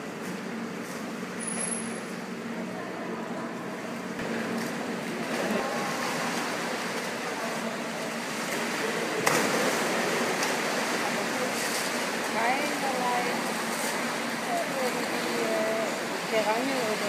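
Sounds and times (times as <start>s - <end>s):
water splashing and churning: 2.3s - 17.0s.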